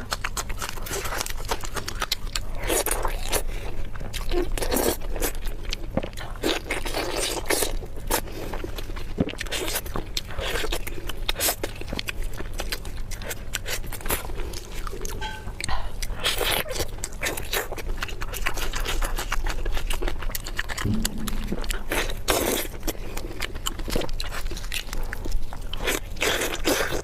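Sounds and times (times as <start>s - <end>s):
chewing and biting food: 0.0s - 21.0s, 23.2s - 27.0s
food crunching: 0.0s - 21.0s, 23.4s - 27.0s.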